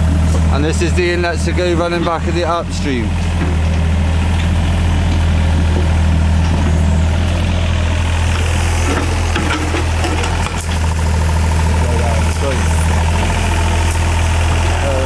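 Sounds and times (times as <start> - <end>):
excavator engine idling: 0.0 - 15.0.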